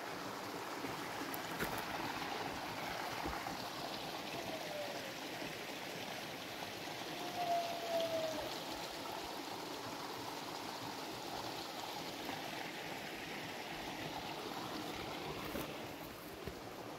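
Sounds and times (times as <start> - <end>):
stream of running water: 0.0 - 16.9.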